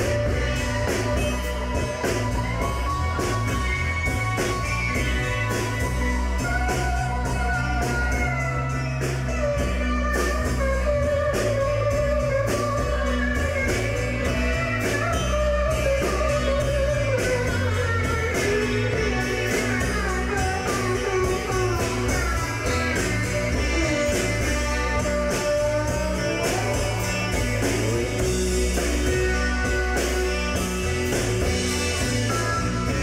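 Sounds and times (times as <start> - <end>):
bass guitar: 0.0 - 33.0
drum and cymbal hits: 0.0 - 33.0
electric guitar lead line: 0.0 - 33.0.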